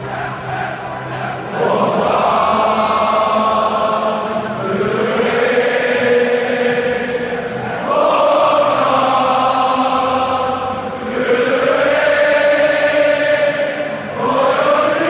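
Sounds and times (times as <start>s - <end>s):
stadium crowd singing: 0.0s - 15.0s.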